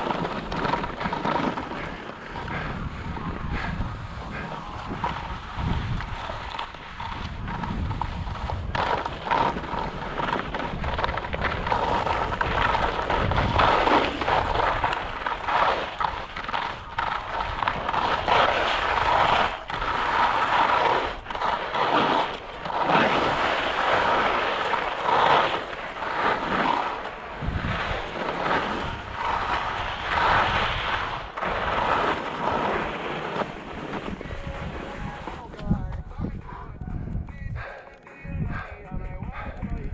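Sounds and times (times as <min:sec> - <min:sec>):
skis scraping over snow: 0:00.0 - 0:36.0
wind on microphone: 0:00.0 - 0:39.9.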